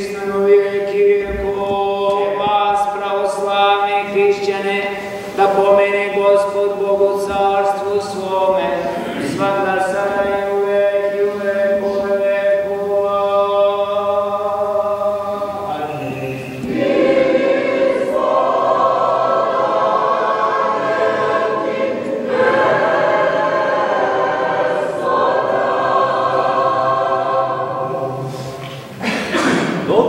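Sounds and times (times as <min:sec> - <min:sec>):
choir singing chant: 0:00.0 - 0:28.8.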